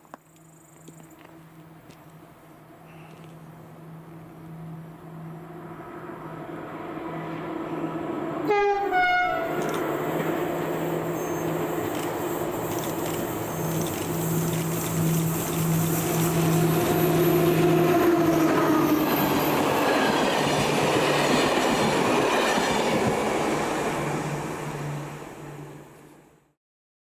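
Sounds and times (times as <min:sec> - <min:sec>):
steady train hum: 0:00.0 - 0:26.6
train passing on rails: 0:00.0 - 0:26.6.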